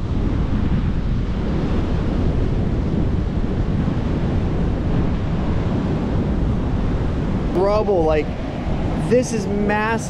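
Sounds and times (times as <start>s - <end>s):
ocean surf: 0.0s - 10.0s
wind buffeting microphone: 0.0s - 10.0s
wind rushing: 0.0s - 10.0s.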